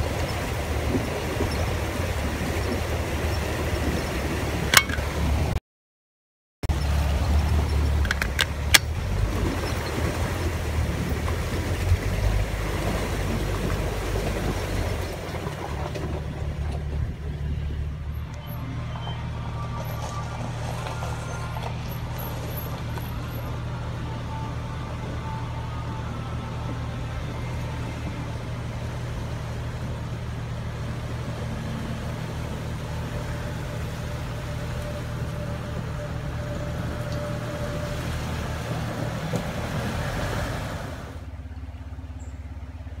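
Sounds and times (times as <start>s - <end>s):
car engine running: 0.0s - 5.6s, 6.7s - 43.0s
rough cabin and trail noise: 0.0s - 5.6s, 6.6s - 43.0s.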